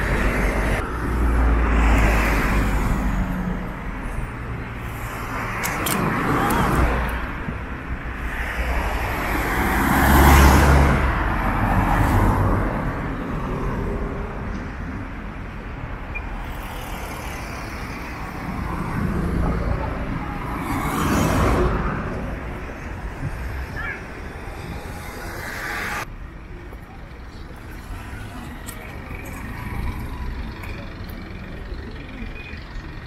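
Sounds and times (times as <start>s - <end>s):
city traffic: 0.0s - 33.0s
vehicles passing close by: 0.0s - 33.0s.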